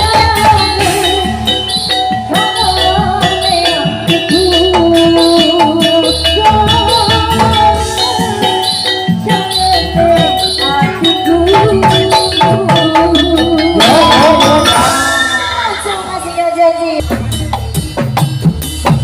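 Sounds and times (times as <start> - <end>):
percussion ensemble over sound system: 0.0 - 19.0
rapid percussion strikes: 0.0 - 19.0.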